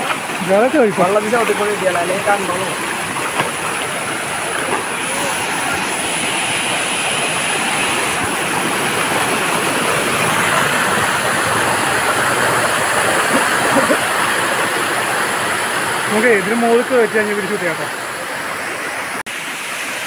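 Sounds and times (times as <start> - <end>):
water rushing over boulders: 0.0 - 20.0.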